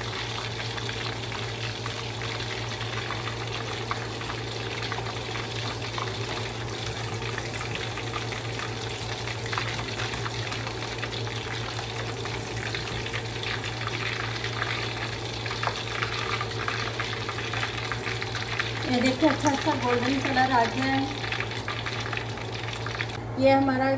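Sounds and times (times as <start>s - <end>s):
chicken deep-frying in oil: 0.0s - 23.2s
low steady hum: 0.0s - 23.9s.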